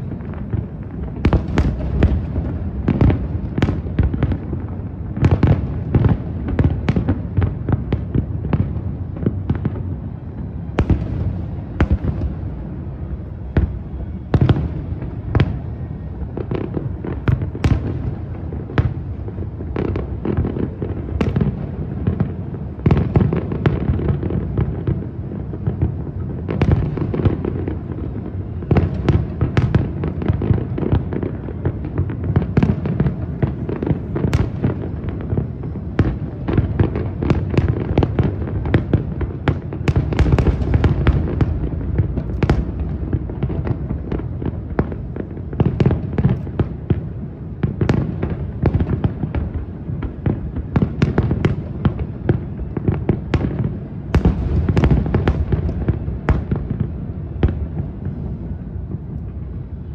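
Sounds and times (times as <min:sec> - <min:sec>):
fireworks cracking: 0:00.0 - 0:59.8.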